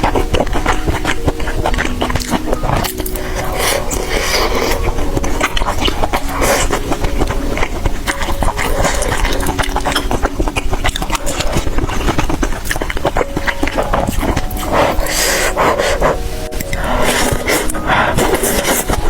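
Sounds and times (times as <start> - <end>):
chewing and slurping: 0.0 - 19.0
soft background music: 0.0 - 19.0.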